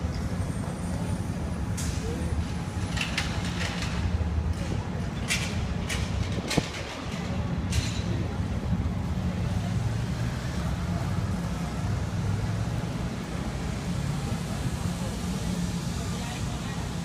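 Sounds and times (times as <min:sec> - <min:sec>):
passing vehicles rumble: 0:00.0 - 0:17.0.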